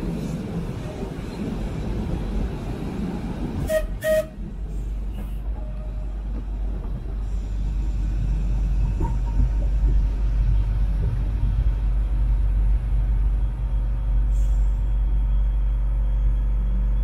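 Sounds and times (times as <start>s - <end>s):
tram rumbling along rails: 0.0s - 17.0s.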